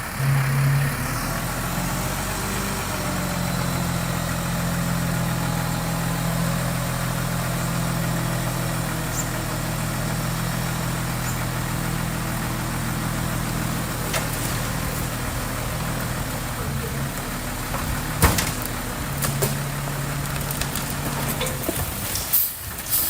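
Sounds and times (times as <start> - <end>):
diesel engine running steadily: 0.0 - 23.0.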